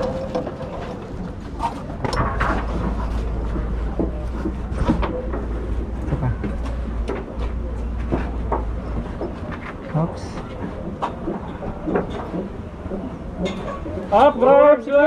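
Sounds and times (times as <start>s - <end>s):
metal clanks and knocks: 0.0s - 9.5s, 10.5s - 14.0s.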